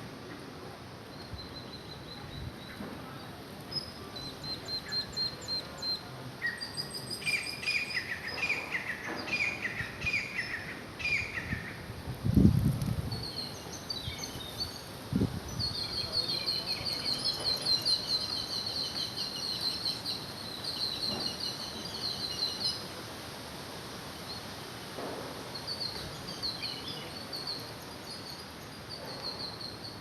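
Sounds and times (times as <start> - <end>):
small birds chirping: 1.1 - 11.8, 13.0 - 22.9, 25.4 - 30.0.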